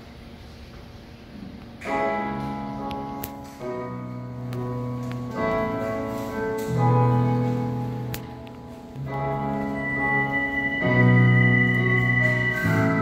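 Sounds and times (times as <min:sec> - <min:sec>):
keyboard chords: 0:01.8 - 0:13.0.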